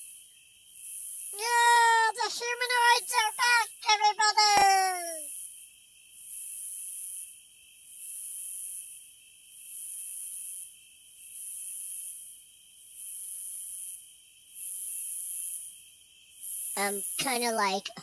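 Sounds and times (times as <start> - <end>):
cicadas chorus: 0.0 - 17.8.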